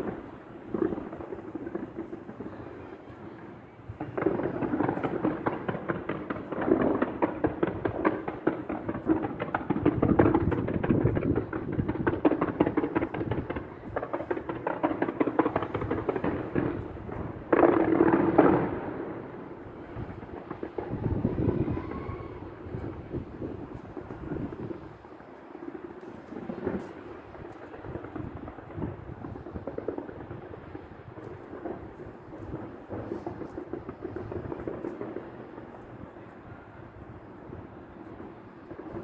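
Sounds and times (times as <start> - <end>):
distant fireworks crackling: 0.0 - 39.0
firework burst: 0.0 - 39.0.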